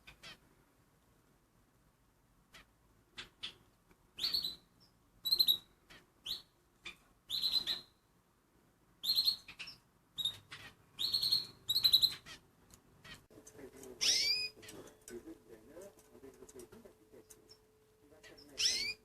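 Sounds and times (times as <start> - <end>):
canaries chirping: 0.0 - 0.5, 2.4 - 8.1, 9.0 - 19.0.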